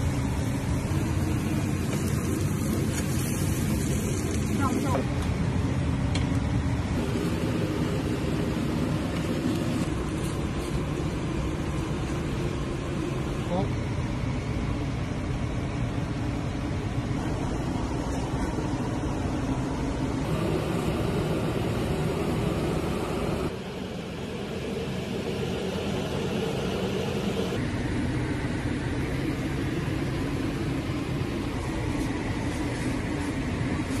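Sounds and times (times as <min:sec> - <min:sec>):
kitchen background hum: 0:00.0 - 0:34.0.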